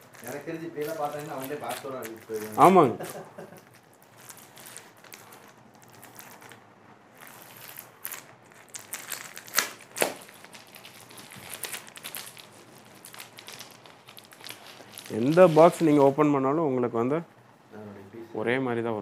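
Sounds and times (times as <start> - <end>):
plastic bags crinkling: 0.0 - 16.3.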